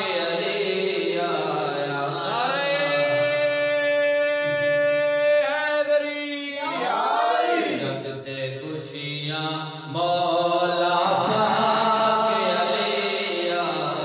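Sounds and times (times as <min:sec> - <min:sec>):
person singing devotional song: 0:00.0 - 0:14.0.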